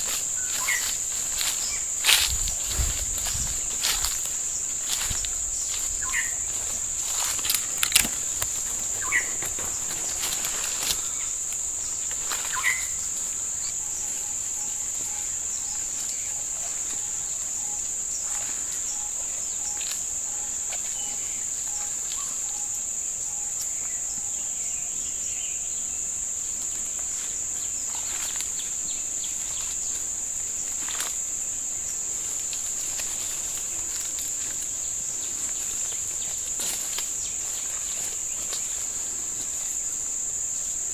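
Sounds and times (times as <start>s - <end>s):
footsteps through undergrowth: 0.0s - 22.7s, 26.6s - 40.9s
insects droning: 0.0s - 40.9s.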